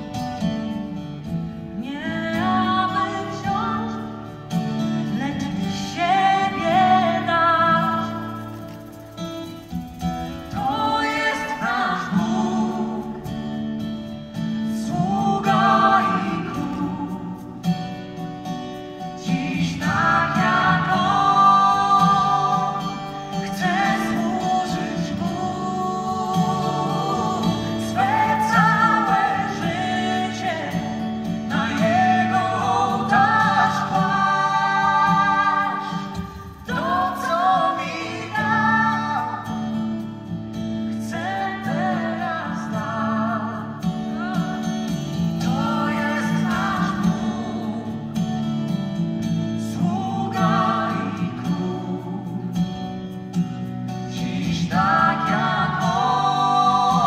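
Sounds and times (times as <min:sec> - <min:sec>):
woman singing: 0:01.8 - 0:04.4, 0:05.0 - 0:08.6, 0:10.5 - 0:13.5, 0:14.7 - 0:17.7, 0:19.2 - 0:40.0, 0:41.0 - 0:48.2, 0:49.6 - 0:52.5, 0:54.1 - 0:57.0.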